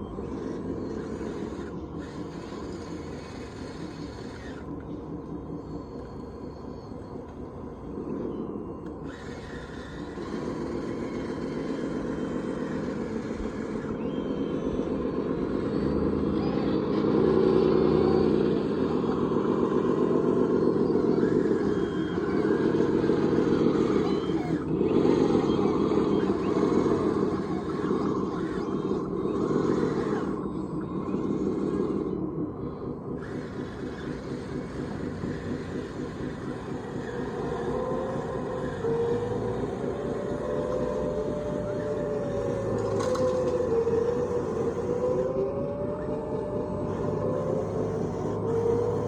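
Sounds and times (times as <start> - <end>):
model machinery mechanical drone: 0.0 - 49.0.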